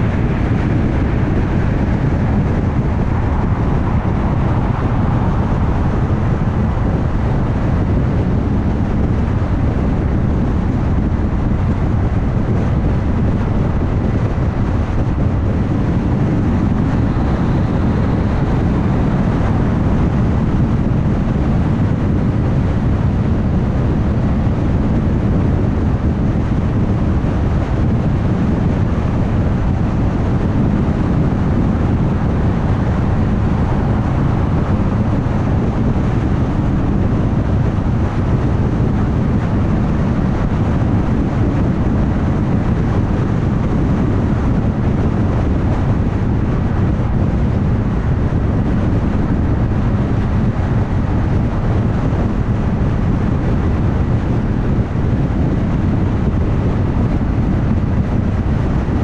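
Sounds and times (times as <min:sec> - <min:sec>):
tyres rumbling on road: 0:00.0 - 0:58.9
wind rush: 0:00.0 - 0:59.0.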